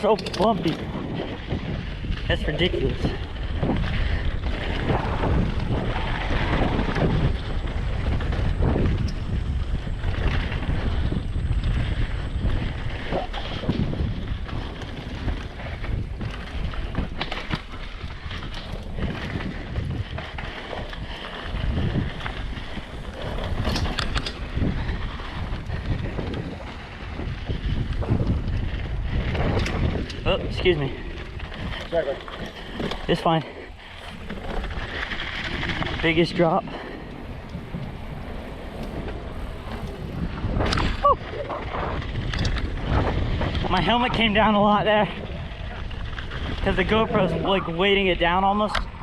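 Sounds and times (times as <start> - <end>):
bike chain rattling: 0.0 - 48.7
bike tyres rumbling over bumps: 0.0 - 49.0
wind buffeting microphone: 0.0 - 49.0.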